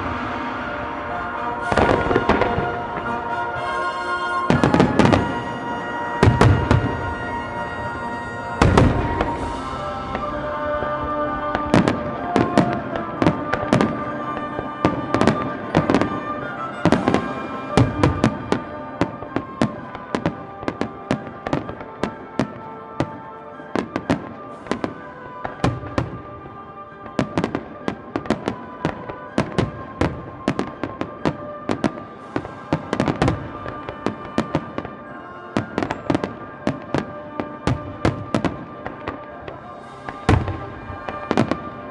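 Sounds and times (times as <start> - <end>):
fireworks bursting: 0.0 - 41.9
music playing: 0.0 - 41.9.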